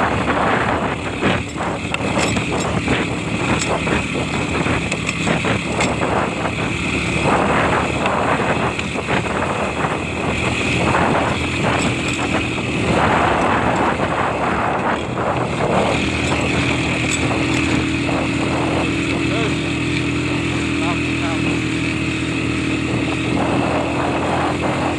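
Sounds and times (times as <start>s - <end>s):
vehicle engine running: 0.0s - 24.9s
wind rushing over microphone: 0.0s - 24.9s.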